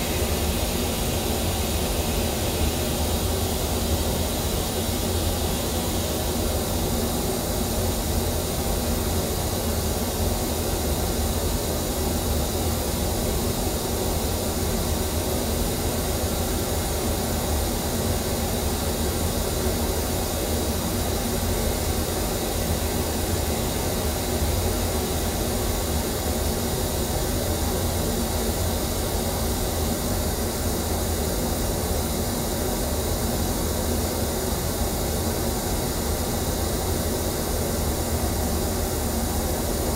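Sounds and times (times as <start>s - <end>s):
pink noise through speakers: 0.0s - 39.9s.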